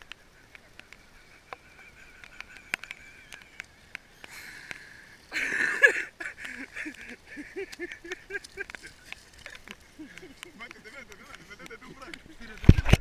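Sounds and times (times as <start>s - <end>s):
raindrops ticking on camera: 0.0s - 13.0s.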